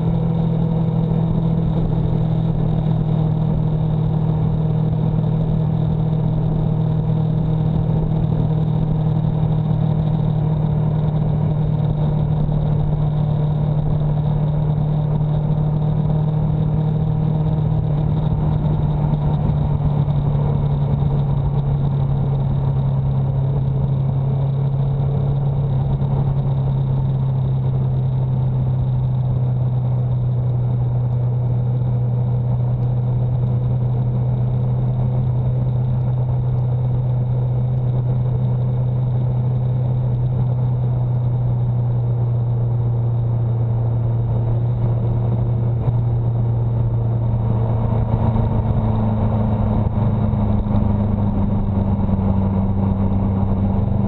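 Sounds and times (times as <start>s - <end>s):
rushing road noise: 0.0s - 54.0s
vehicle engine running: 0.0s - 54.0s.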